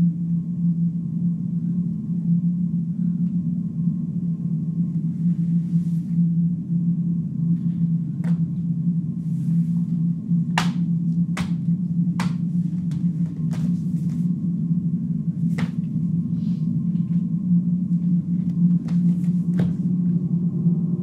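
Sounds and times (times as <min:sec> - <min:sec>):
low ambient drone: 0:00.0 - 0:21.0.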